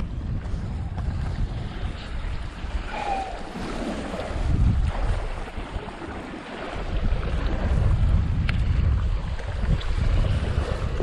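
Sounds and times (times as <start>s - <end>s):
small waves washing against bank: 0.0s - 11.0s
wind buffeting microphone: 0.0s - 11.0s.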